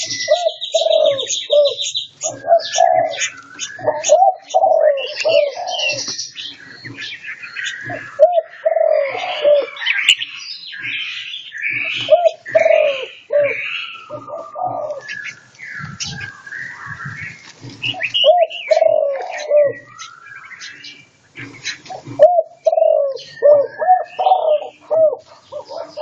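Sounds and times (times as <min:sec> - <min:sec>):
caged songbirds singing: 0:00.0 - 0:26.0.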